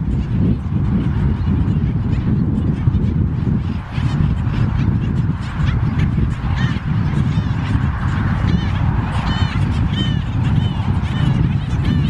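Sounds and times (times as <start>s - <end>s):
birds honking barks: 0.0s - 12.0s.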